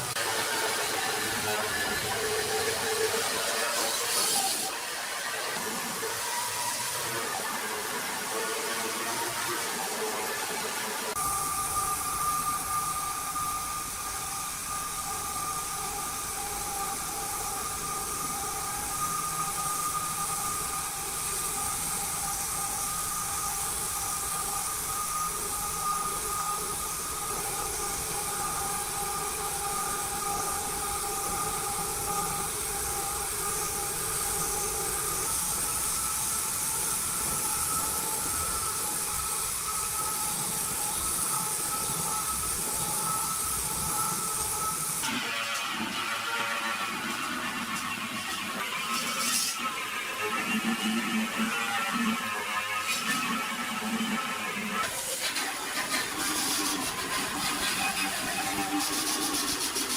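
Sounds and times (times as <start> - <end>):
hiss: 0.0 - 59.9.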